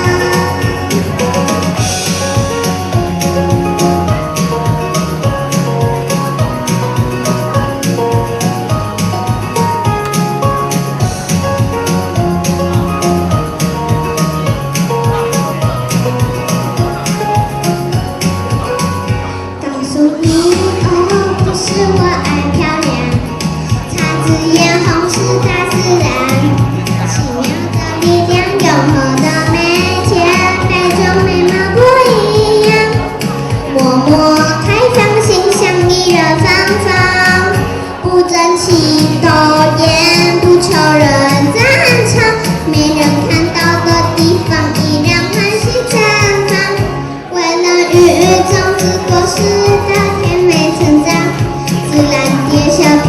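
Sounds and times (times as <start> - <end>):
child singing pop song: 0.0 - 53.0
recorded musical accompaniment: 0.0 - 53.0.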